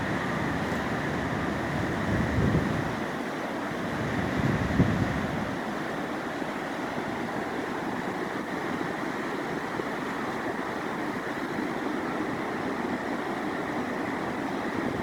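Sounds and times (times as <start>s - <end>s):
river water roaring: 0.0s - 15.0s.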